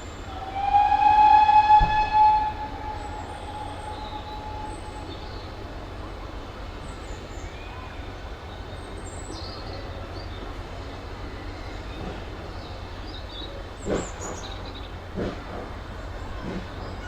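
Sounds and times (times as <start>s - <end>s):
steam train rumbling and hissing: 0.0s - 17.0s.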